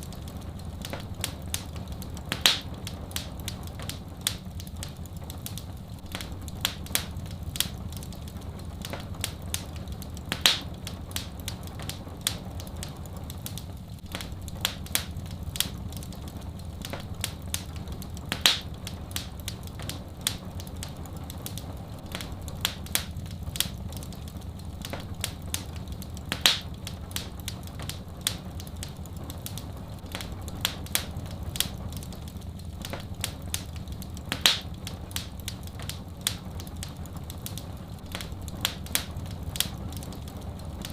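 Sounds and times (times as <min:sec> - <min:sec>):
steady low rumble: 0:00.0 - 0:40.9
wood fire crackling: 0:00.0 - 0:40.9.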